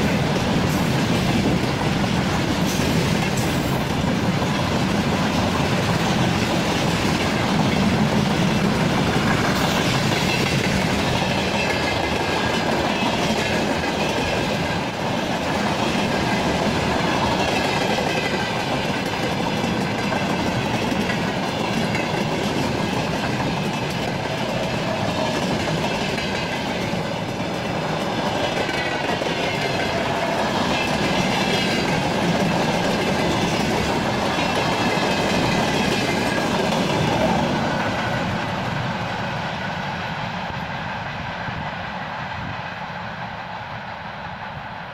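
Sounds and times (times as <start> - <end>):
train wheels clattering over rail joints: 0.0 - 38.8.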